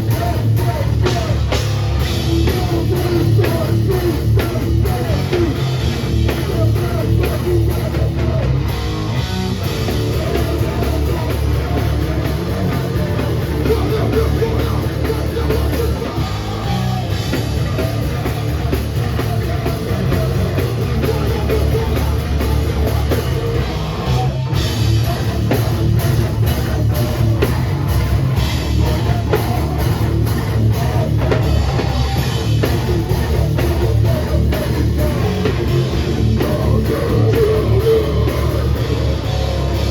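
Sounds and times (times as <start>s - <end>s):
hardcore band playing live: 0.0s - 39.9s.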